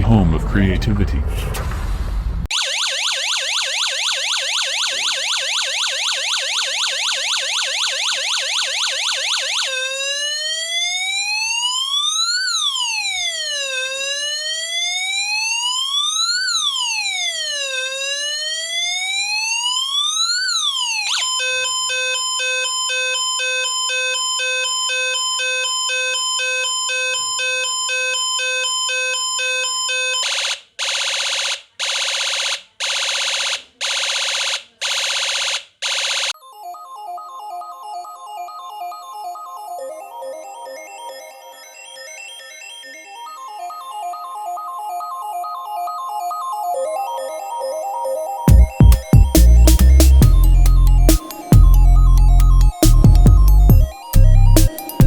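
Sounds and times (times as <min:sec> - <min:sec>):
electronic siren from small speaker: 0:02.5 - 0:55.0.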